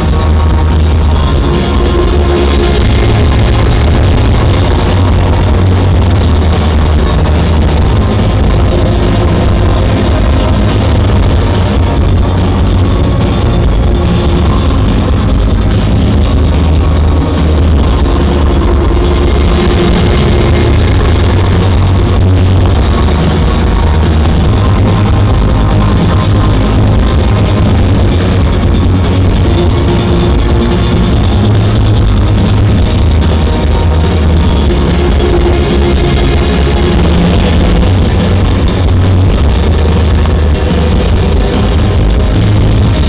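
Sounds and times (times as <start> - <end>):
overloaded live rock band: 0.0 - 43.0.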